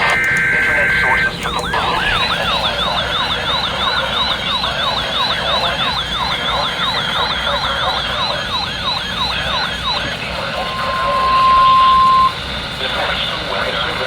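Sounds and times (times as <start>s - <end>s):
electronic siren two tones warbling: 0.0s - 12.4s.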